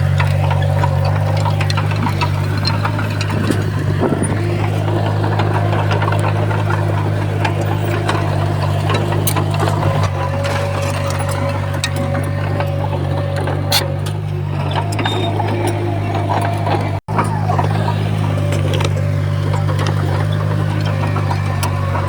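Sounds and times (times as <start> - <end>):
diesel engine drone: 0.0 - 22.0
metallic clanks and rattles: 0.0 - 22.0.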